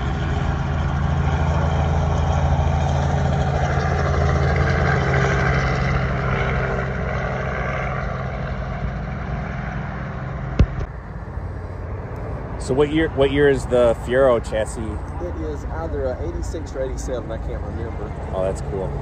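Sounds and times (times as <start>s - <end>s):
helicopter passing: 0.0s - 19.0s.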